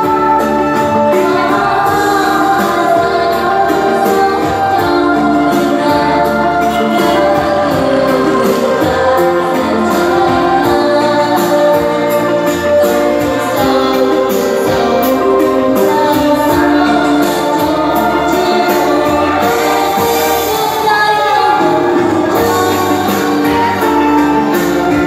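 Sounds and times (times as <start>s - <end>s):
backing track with steady beat: 0.0s - 25.0s
woman singing karaoke: 0.0s - 25.0s.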